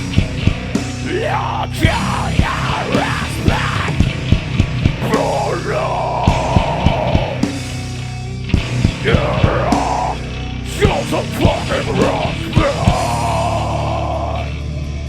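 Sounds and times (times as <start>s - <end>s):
heavy rock band playing: 0.0s - 15.0s.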